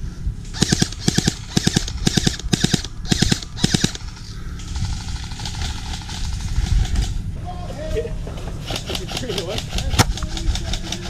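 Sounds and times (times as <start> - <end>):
airsoft gun firing bursts: 0.6 - 7.2, 8.5 - 11.0.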